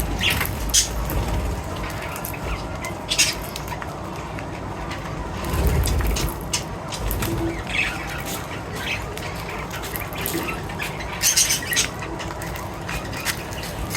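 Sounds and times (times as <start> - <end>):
small animals squawking and chirping: 0.0 - 4.1, 5.4 - 13.9.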